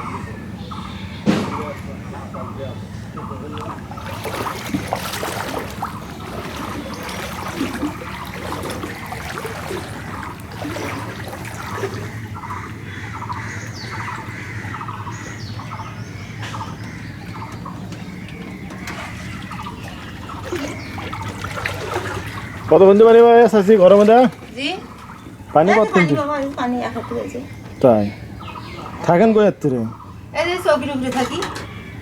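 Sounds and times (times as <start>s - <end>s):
birds chirping: 0.0s - 32.0s
water sloshing and trickling: 0.0s - 32.0s.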